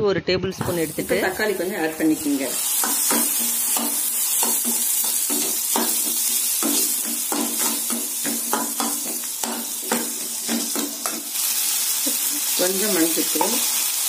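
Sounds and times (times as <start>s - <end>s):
ladle stirring and scraping pan: 0.6s - 12.6s
food sizzling in hot oil: 0.6s - 14.0s.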